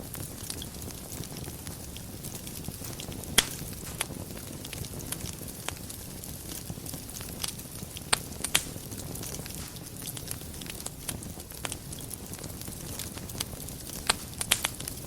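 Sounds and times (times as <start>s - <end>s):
fire popping: 0.0s - 15.0s
fire rumbling and crackling: 0.0s - 15.0s.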